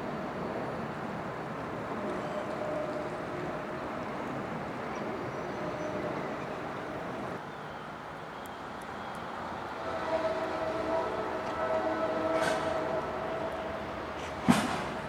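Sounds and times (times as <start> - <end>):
train humming tone: 0.0 - 7.4, 8.7 - 15.0
train rumble: 0.0 - 7.4, 8.8 - 15.0.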